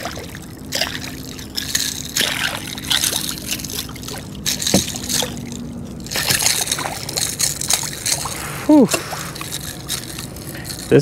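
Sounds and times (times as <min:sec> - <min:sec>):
fish splashing at water surface: 0:00.0 - 0:10.9.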